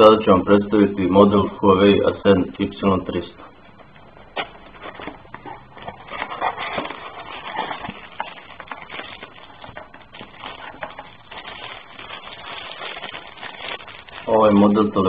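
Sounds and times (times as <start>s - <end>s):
plastic wrap crinkling: 0.6s - 15.0s.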